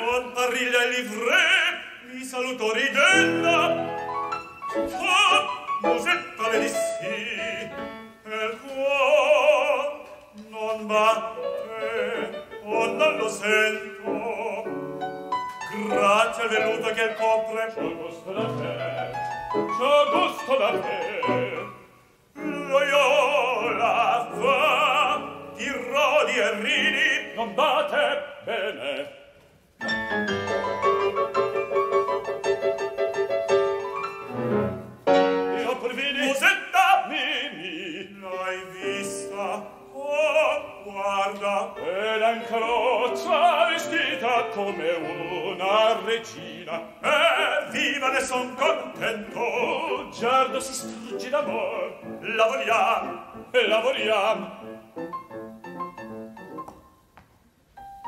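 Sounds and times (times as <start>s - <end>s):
operatic male singing: 0.0s - 29.4s, 35.5s - 55.0s
grand piano accompaniment: 0.0s - 58.0s.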